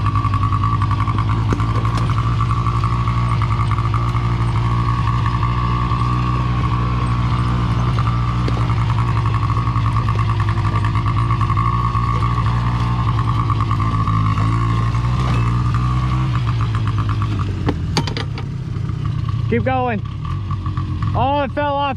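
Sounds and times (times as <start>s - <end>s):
off-road vehicle engine running: 0.0s - 21.9s.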